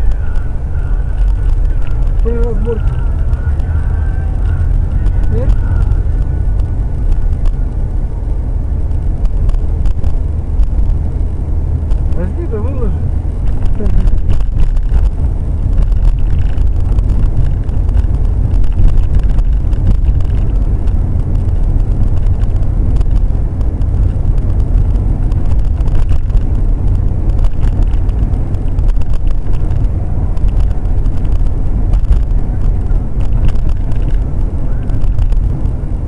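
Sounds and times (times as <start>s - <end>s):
car engine rumble: 0.0s - 36.0s
road noise: 0.0s - 36.0s.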